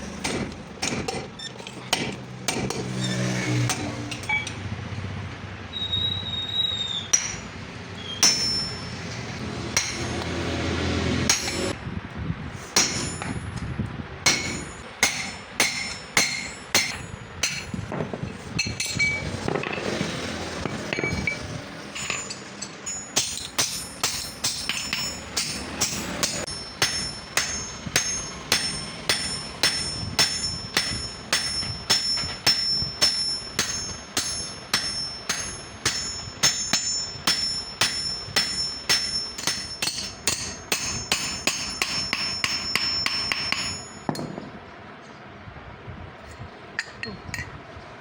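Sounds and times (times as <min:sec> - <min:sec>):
hammer striking steel on anvil: 0:00.0 - 0:04.6, 0:07.1 - 0:10.6, 0:11.2 - 0:11.8, 0:12.7 - 0:13.6, 0:14.2 - 0:17.9, 0:18.6 - 0:20.0, 0:20.6 - 0:44.5.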